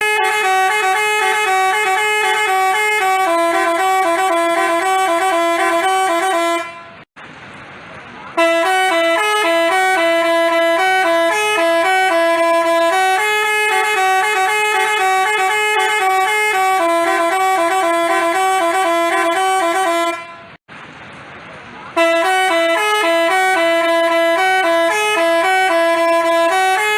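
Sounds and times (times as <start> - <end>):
bus horn playing a tune: 0.0 - 7.1, 8.3 - 20.6, 22.0 - 26.9.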